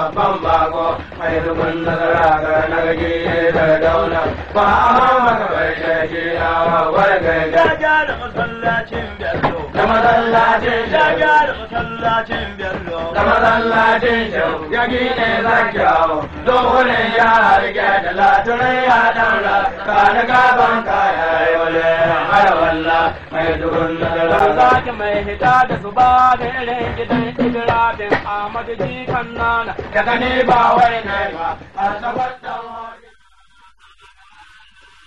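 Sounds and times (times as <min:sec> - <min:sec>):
musical backing: 0:00.0 - 0:35.0.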